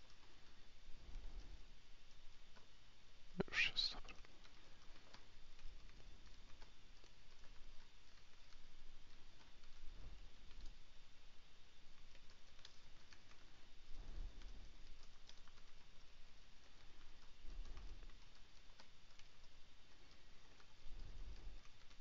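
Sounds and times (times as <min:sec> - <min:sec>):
keyboard typing: 0:00.0 - 0:02.7, 0:04.0 - 0:10.8, 0:11.9 - 0:22.0.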